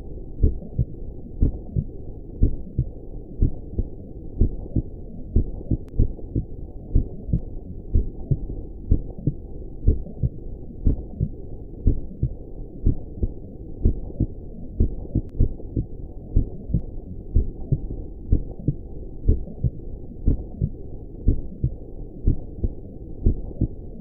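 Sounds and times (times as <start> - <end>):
heartbeat thumps: 0.4 - 23.8.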